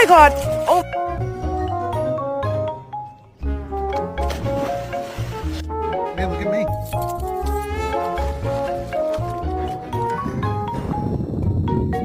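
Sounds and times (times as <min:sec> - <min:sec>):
background music with pulsing bass: 0:00.0 - 0:12.0.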